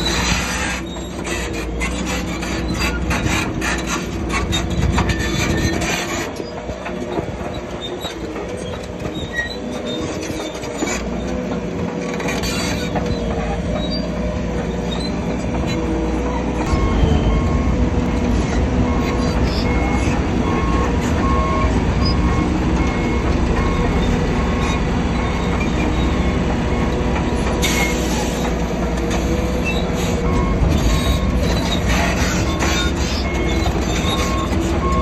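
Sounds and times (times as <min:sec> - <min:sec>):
crawler tracks clanking and squealing: 0:00.0 - 0:35.0
diesel engine running: 0:00.0 - 0:35.0.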